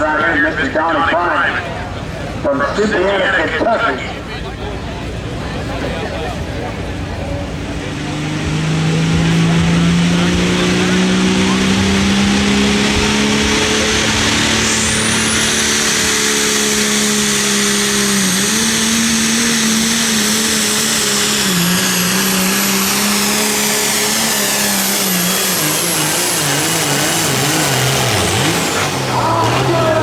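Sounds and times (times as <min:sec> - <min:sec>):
tractor diesel engine at full throttle: 0:00.0 - 0:30.0.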